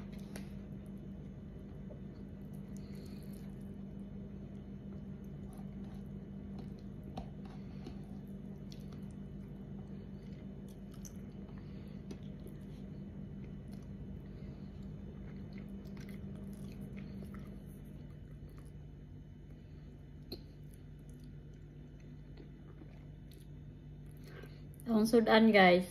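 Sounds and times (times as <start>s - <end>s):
steady low hum: 0.0s - 25.9s
person chewing food: 1.6s - 24.8s.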